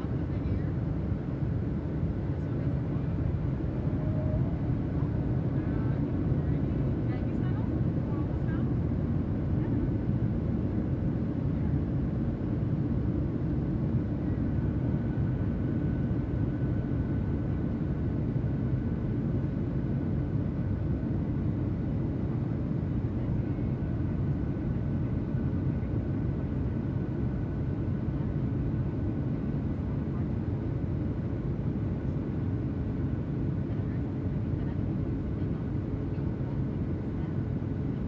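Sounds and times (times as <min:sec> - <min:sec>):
airplane cabin engine drone: 0:00.0 - 0:38.0.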